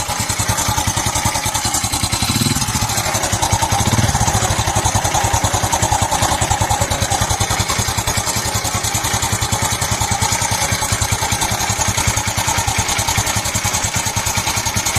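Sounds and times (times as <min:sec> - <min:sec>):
abnormal engine noise: 0:00.0 - 0:14.2
motorcycle engine idling: 0:00.0 - 0:14.9.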